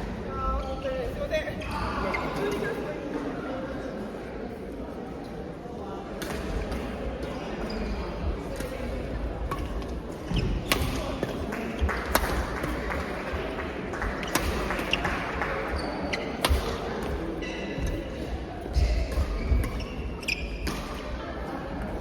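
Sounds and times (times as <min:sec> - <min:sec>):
background of people: 0:00.0 - 0:22.0.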